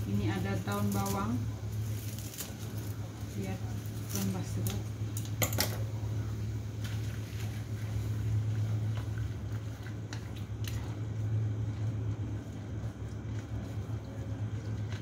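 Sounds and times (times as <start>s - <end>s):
kitchen appliance humming: 0.0s - 15.0s.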